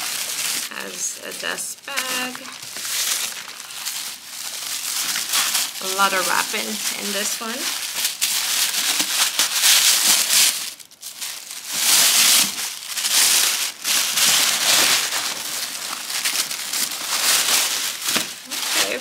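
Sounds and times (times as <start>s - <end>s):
tissue paper crinkling: 0.0s - 19.0s.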